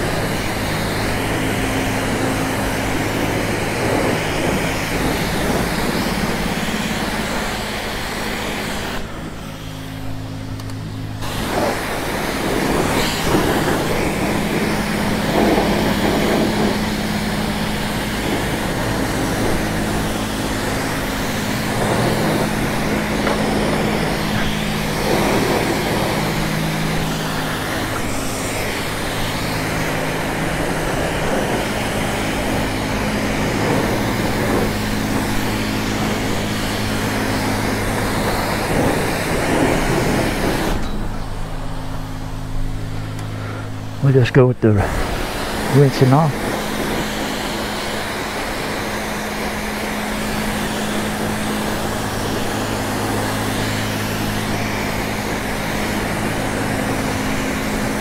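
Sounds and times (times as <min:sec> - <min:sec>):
pressure washer spray hissing: 0:00.0 - 0:58.0
steady low hum: 0:00.0 - 0:58.0.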